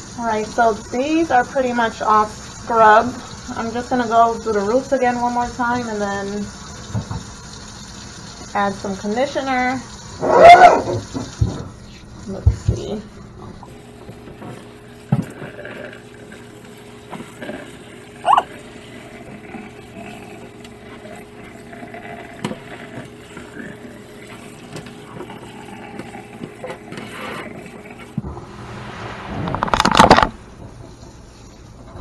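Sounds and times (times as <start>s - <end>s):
water spraying into metal sink: 0.0s - 28.2s.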